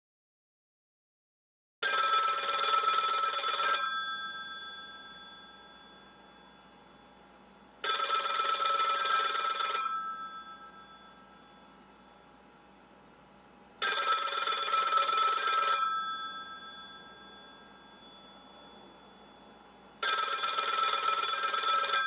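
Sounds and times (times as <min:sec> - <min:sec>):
telephone bell ringing: 0:01.8 - 0:07.2, 0:07.8 - 0:22.0.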